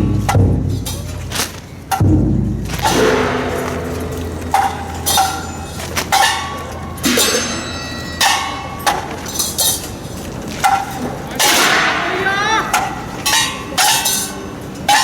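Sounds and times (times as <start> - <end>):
steady low hum: 0.0 - 14.9
ringing metallic strikes: 0.0 - 15.0.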